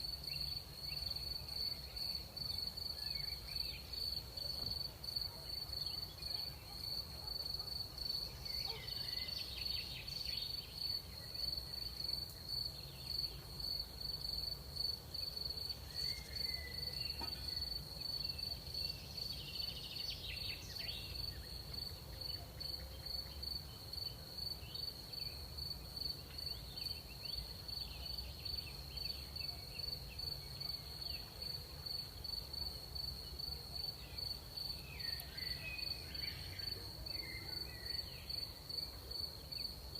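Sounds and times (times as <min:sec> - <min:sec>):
faint insect chirps: 0:00.0 - 0:39.9.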